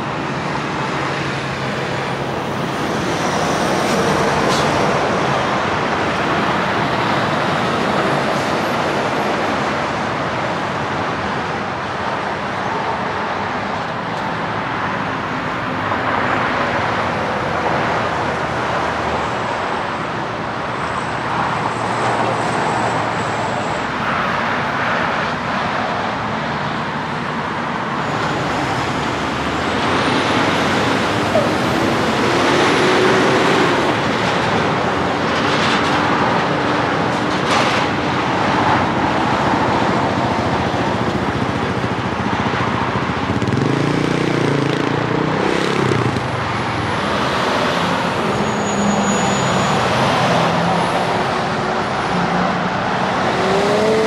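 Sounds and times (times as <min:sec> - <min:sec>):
cars passing: 0:00.0 - 0:54.0
diesel truck engines: 0:00.0 - 0:54.0.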